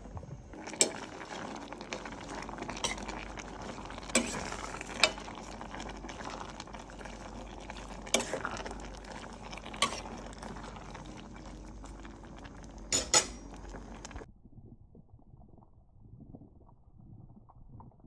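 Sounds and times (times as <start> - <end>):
curry bubbling in a pot: 0.5 - 18.0.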